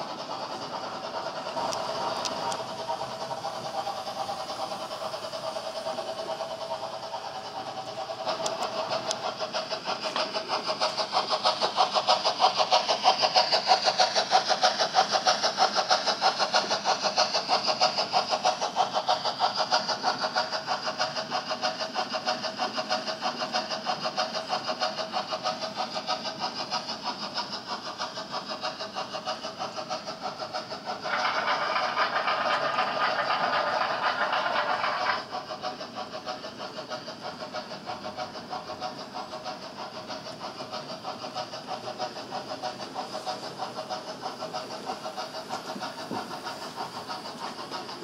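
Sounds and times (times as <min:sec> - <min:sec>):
model train motor whine: 0:00.0 - 0:26.5, 0:27.3 - 0:48.0.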